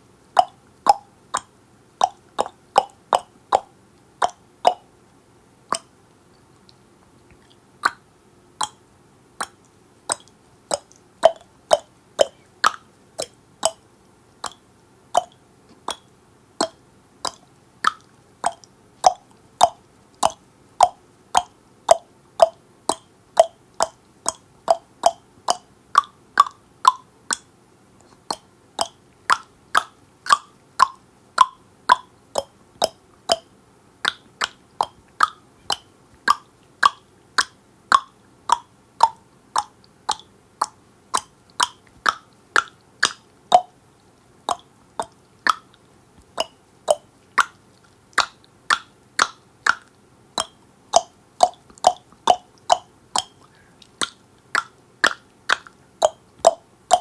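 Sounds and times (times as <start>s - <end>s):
person clicking tongue: 0.3s - 4.9s, 5.7s - 5.9s, 6.6s - 8.8s, 9.4s - 13.8s, 14.4s - 14.6s, 15.2s - 43.8s, 44.5s - 57.0s.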